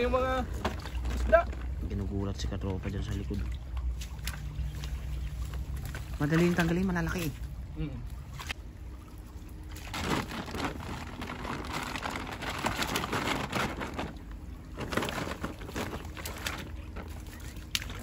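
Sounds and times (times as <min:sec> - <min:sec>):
water splashing from net: 0:03.0 - 0:07.6, 0:08.2 - 0:18.0.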